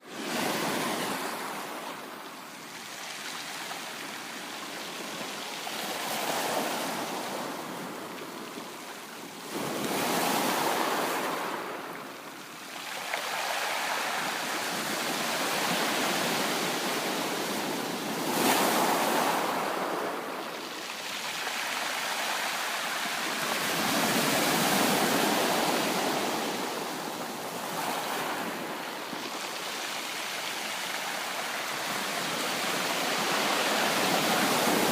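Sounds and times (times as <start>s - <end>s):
ocean waves breaking on shore: 0.0s - 34.9s.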